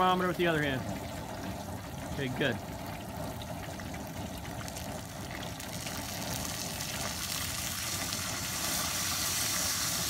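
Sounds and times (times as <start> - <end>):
hot oil bubbling and sizzling: 0.0 - 10.0.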